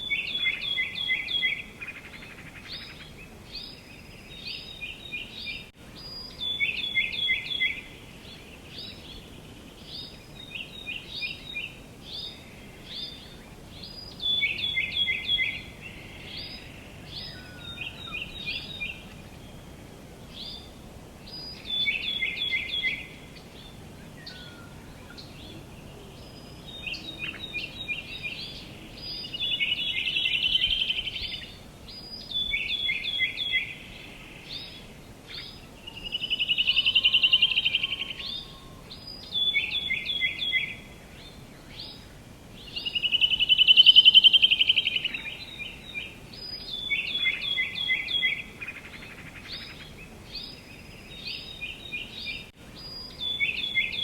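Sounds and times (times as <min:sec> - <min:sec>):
faint outdoor hiss: 0:00.0 - 0:54.0
songbirds singing: 0:00.0 - 0:54.0.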